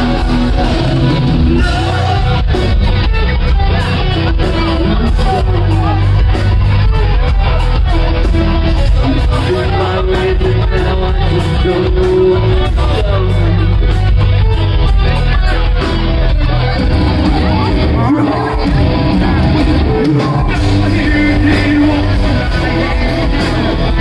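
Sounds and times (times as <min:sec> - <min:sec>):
bass guitar: 0:00.0 - 0:24.0
distorted electric guitars: 0:00.0 - 0:24.0
drums steady beat: 0:00.0 - 0:24.0.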